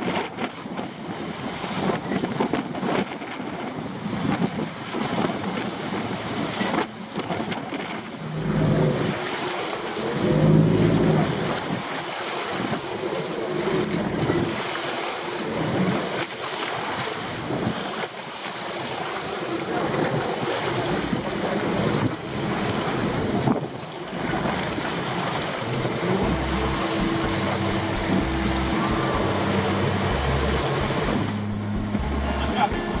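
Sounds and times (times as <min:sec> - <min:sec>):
water rushing along boat hull: 0:00.0 - 0:33.0
wind buffeting microphone: 0:00.0 - 0:33.0.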